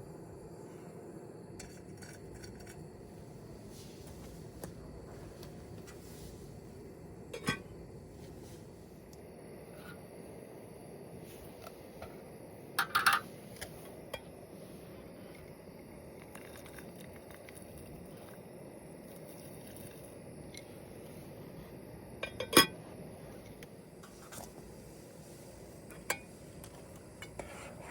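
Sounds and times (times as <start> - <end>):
steady low hiss: 0.0 - 27.9.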